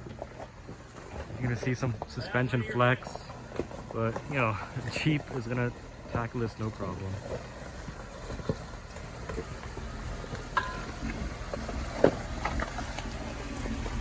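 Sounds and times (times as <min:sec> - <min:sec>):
low engine rumble: 0:00.0 - 0:14.0
rocks knocking under tyres: 0:00.0 - 0:14.0.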